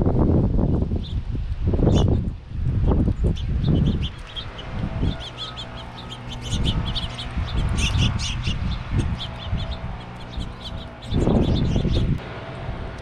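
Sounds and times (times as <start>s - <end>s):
songbirds chirping: 0.9s - 12.3s.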